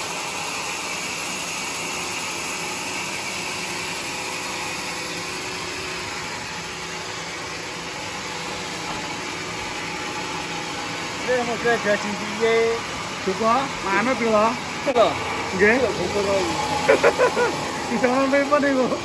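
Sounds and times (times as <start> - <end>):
band saw cutting log: 0.0 - 19.0.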